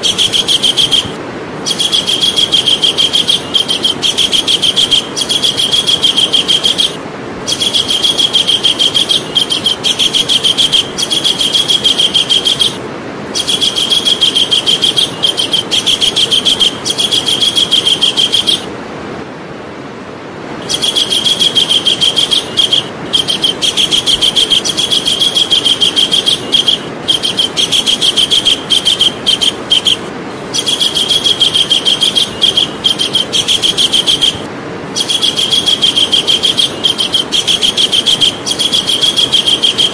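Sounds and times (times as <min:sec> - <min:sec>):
kingfisher calling: 0:00.0 - 0:18.7, 0:20.6 - 0:39.9
background hiss: 0:00.0 - 0:39.9.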